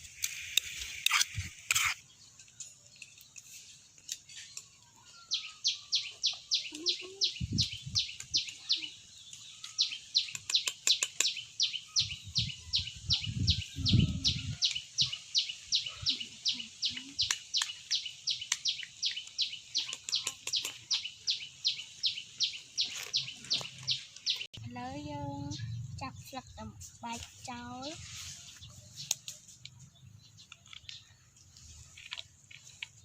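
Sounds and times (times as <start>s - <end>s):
bird chirping: 0.2s - 33.0s.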